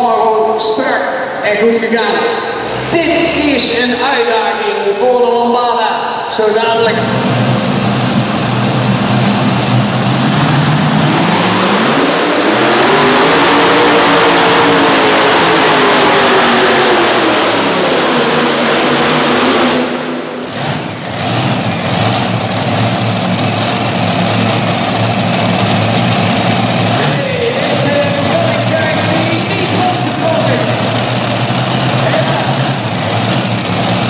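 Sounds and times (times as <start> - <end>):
pulling tractor engines revving: 2.4 - 4.0, 6.7 - 34.0.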